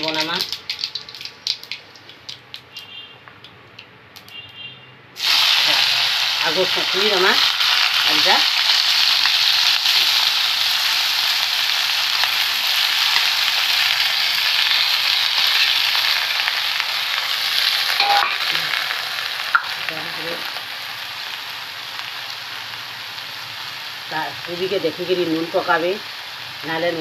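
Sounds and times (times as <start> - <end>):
vegetables sizzling in hot oil: 0.0 - 2.9, 5.2 - 27.0.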